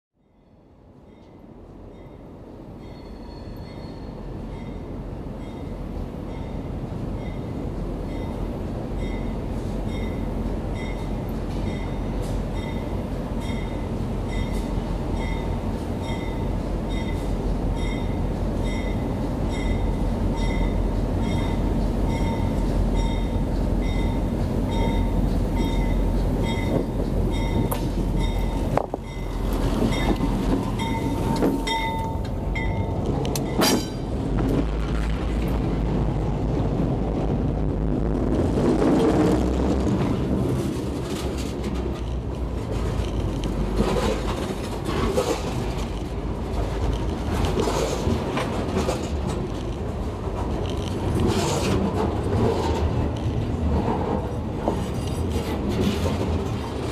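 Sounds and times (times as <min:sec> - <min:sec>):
diesel locomotive engine rumbling: 0:00.5 - 0:56.9
wheels rolling on rail: 0:02.8 - 0:56.9.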